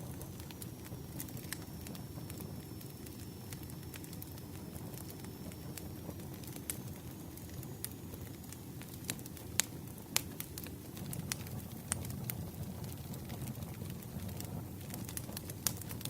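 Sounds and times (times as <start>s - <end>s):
campfire crackling and popping: 0.0s - 16.0s
low rumble of burning wood: 0.0s - 16.0s.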